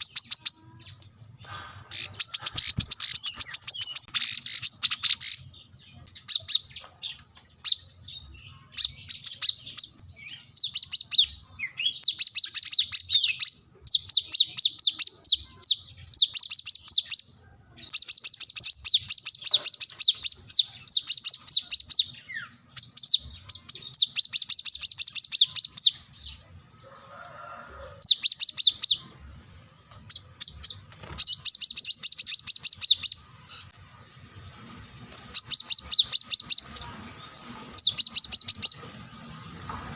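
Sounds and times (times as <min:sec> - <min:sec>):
bird chirping: 0:00.0 - 0:27.1, 0:28.0 - 0:34.0, 0:35.1 - 0:39.7.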